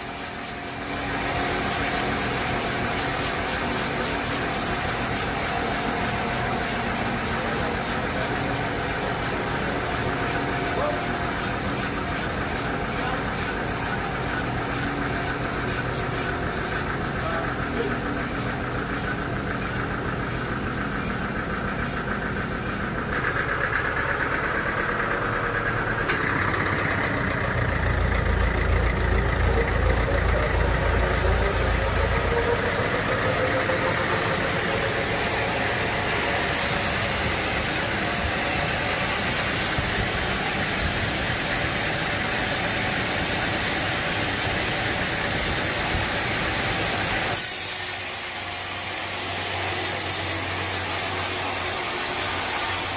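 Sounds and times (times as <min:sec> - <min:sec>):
sawmill machinery running: 0:00.0 - 0:52.9.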